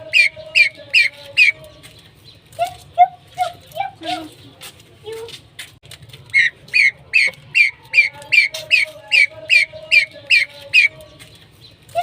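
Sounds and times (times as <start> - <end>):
pheasant calling: 0.0 - 4.5, 6.3 - 12.0.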